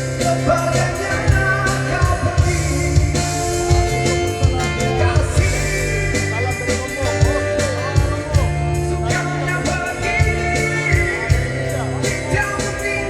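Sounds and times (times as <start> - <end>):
rock ballad with drums and guitar: 0.0 - 13.0.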